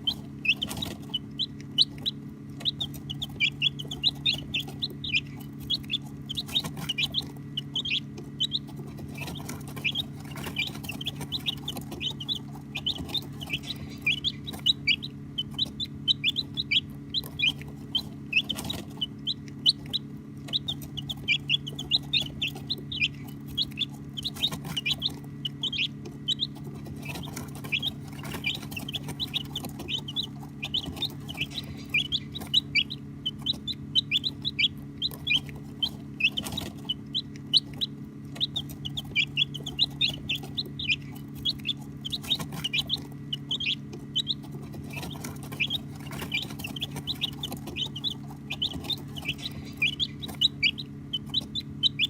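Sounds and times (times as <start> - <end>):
baby chicks peeping: 0.0 - 52.0
steady low hum: 0.0 - 52.0.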